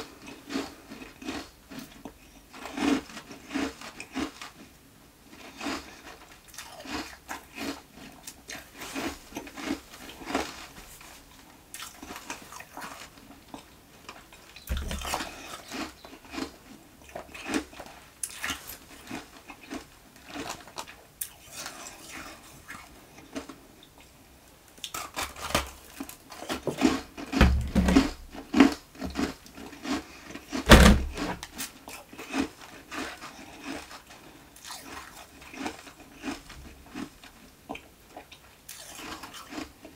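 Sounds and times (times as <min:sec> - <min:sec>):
chewing crunchy ice: 0:00.0 - 0:04.7, 0:05.3 - 0:24.2, 0:24.8 - 0:39.9.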